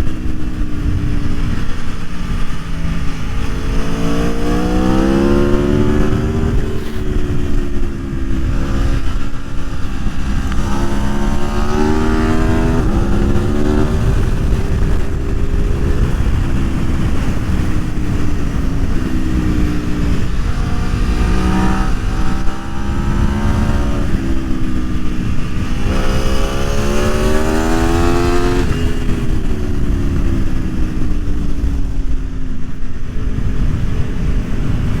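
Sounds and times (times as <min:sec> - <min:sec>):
low rush: 0:00.0 - 0:35.0
motorcycle engine accelerating: 0:00.0 - 0:35.0.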